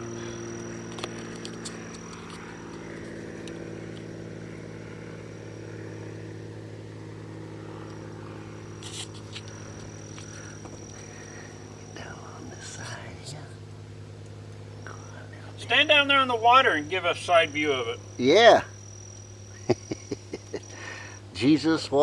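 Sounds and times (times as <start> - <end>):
motor humming: 0.0 - 21.5.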